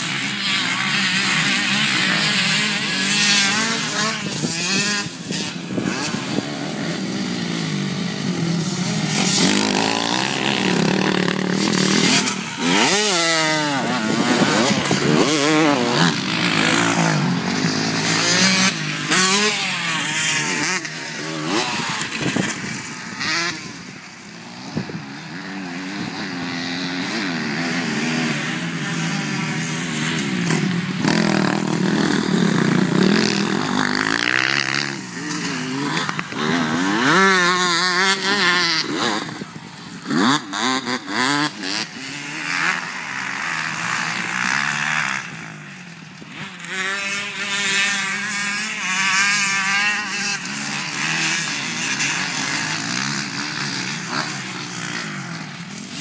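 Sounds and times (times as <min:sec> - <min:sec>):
motocross bikes racing: 0:00.0 - 0:56.0.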